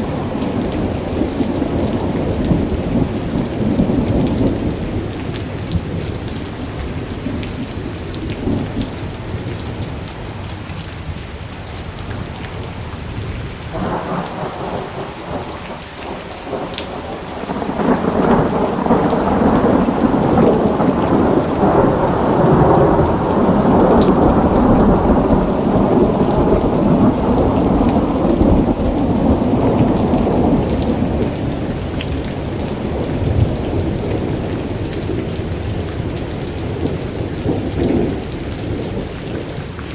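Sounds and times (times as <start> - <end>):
rolling thunder: 0.0 - 9.9, 13.7 - 39.6
steady rain: 0.0 - 39.9.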